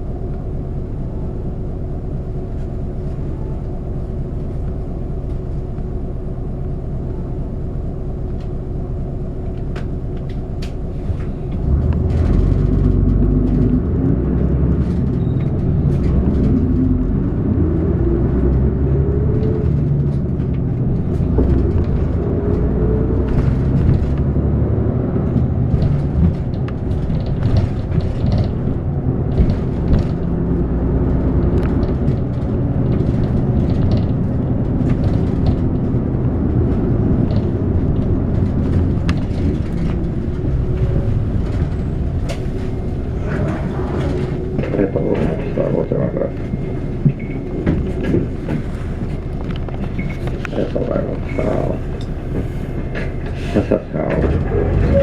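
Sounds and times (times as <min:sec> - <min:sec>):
bus body rattling: 0:00.0 - 0:55.0
bus engine and road rumble: 0:00.0 - 0:55.0.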